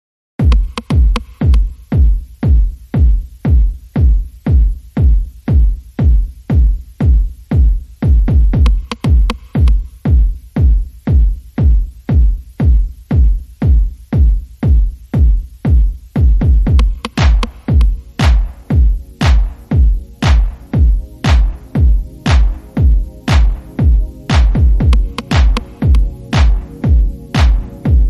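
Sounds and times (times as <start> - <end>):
electronic music: 0.4 - 28.0
steady kick drum beat: 0.4 - 28.0.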